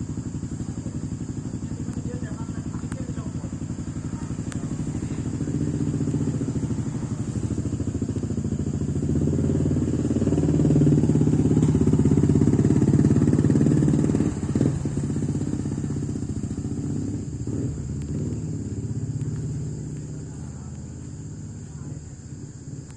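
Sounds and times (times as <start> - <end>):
vehicle engine running: 0.0 - 22.9.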